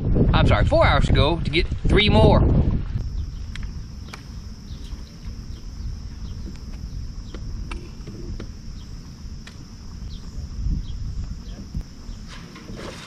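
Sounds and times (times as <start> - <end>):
insects droning: 0.0 - 13.0
wind rumble on microphone: 0.0 - 13.0.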